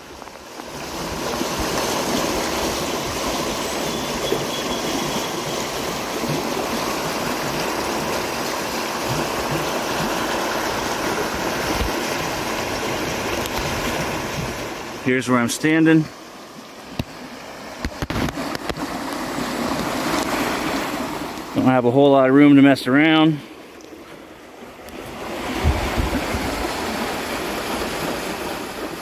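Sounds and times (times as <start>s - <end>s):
river rapids rushing: 0.0s - 21.6s, 24.8s - 29.0s.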